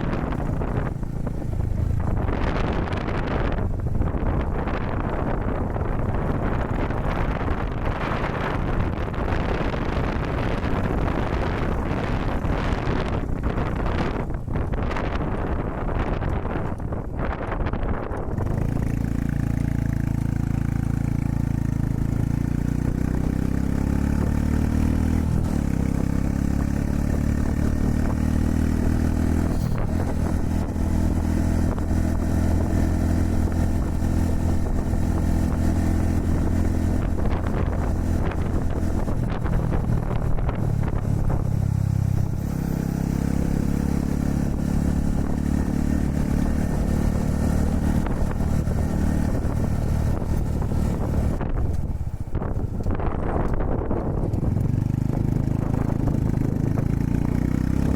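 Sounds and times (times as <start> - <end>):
motorcycle engine running: 0.0 - 57.9
wind buffeting microphone: 0.0 - 57.9.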